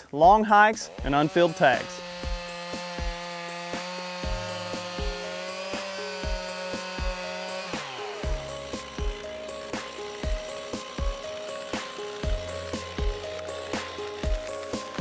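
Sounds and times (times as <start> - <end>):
background music with steady beat: 0.0 - 15.0
chainsaw cutting wood: 0.4 - 15.0.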